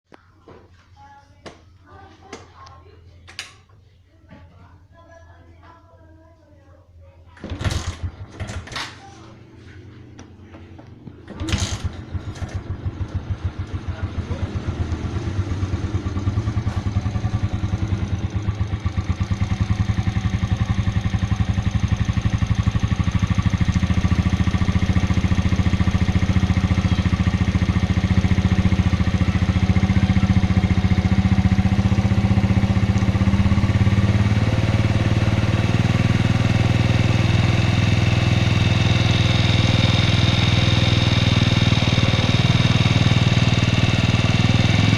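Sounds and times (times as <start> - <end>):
motorcycle engine starting and idling: 7.3 - 44.9.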